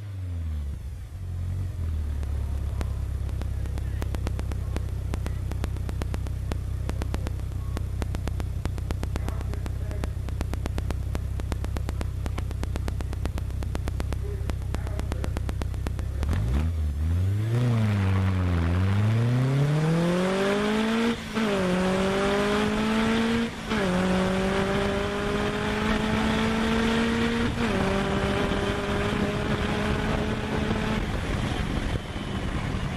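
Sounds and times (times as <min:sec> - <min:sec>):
car engine revving and accelerating: 0:00.0 - 0:32.9.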